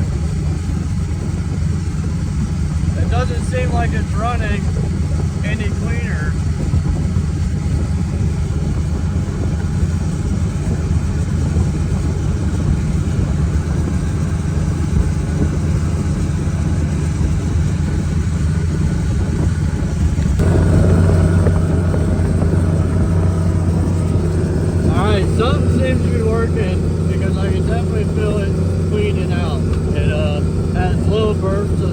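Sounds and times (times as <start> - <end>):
boat motor running: 0.0 - 31.9.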